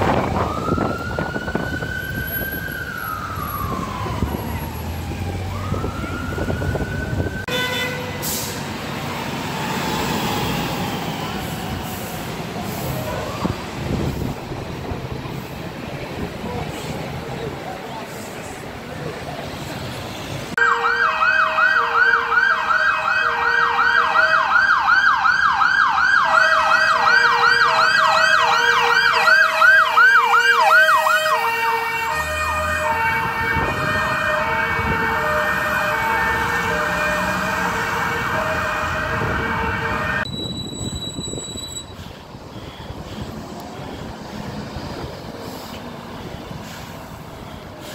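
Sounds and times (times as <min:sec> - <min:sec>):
fire engine sirens: 0:00.0 - 0:17.5, 0:20.5 - 0:47.9
traffic noise: 0:00.0 - 0:47.9.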